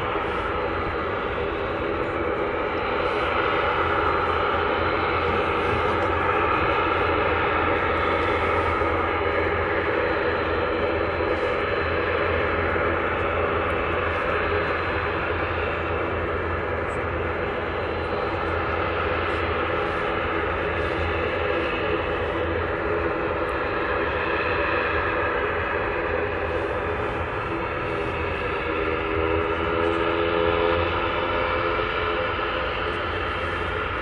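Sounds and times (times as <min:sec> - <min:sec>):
turboprop engines running: 0:00.0 - 0:34.0.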